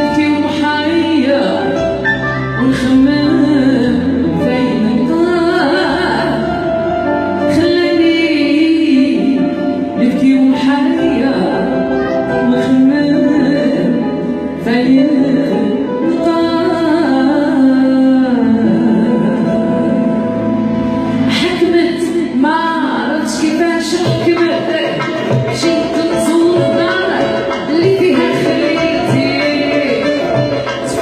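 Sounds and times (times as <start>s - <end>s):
song with singing voice: 0.0s - 31.0s.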